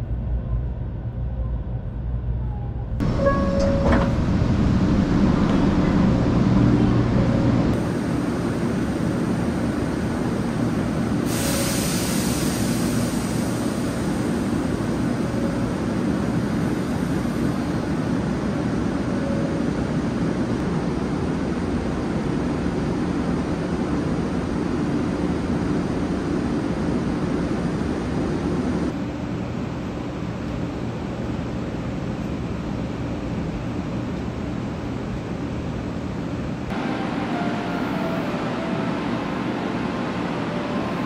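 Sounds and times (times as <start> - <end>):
high-speed train running rumble: 0.0 - 41.0.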